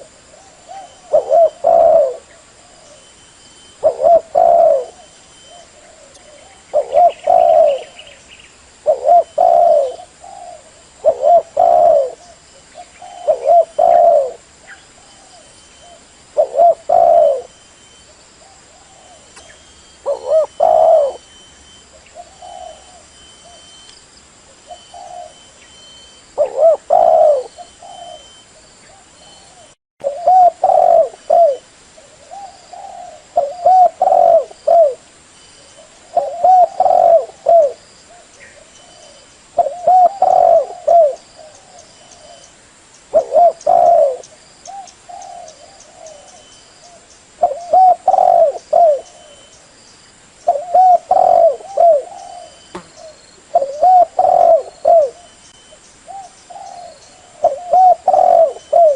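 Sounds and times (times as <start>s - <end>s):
dove cooing: 0.0s - 8.2s, 8.8s - 17.6s, 18.4s - 23.7s, 24.5s - 42.5s, 43.1s - 49.6s, 50.4s - 55.5s, 56.1s - 58.9s.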